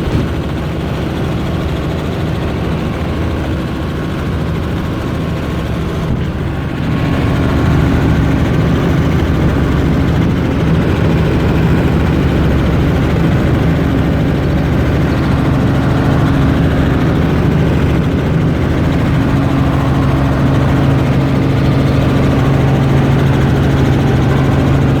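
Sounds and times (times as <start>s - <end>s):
helicopter engine and rotors: 0.0s - 25.0s.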